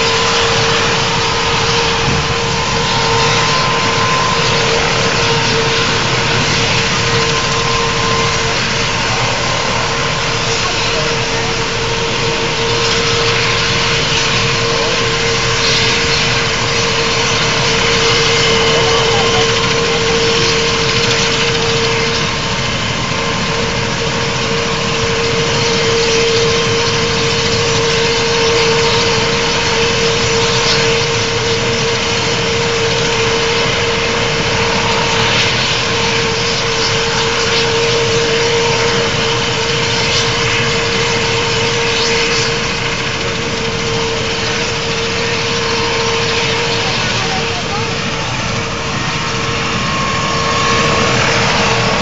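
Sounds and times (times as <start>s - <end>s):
helicopter engines and rotor running: 0.0s - 52.0s.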